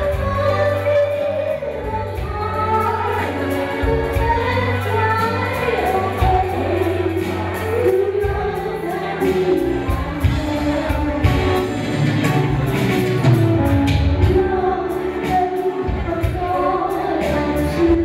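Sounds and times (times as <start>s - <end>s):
woman singing into a microphone: 0.0s - 12.6s, 13.3s - 18.0s
instrumental accompaniment with bass: 0.0s - 18.0s.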